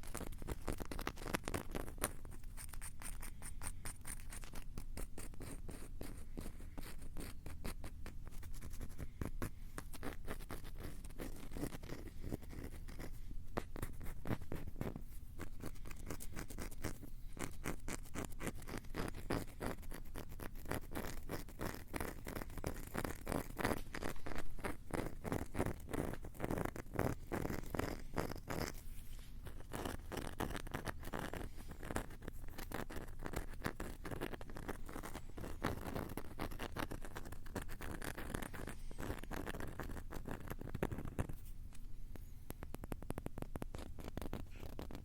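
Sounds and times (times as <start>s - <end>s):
tapping and scratching on microphones: 0.0s - 45.0s.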